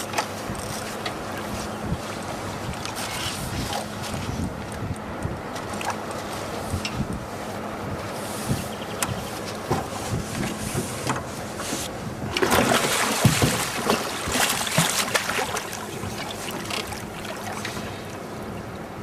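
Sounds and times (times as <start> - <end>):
water splashing against boat: 0.0 - 19.0.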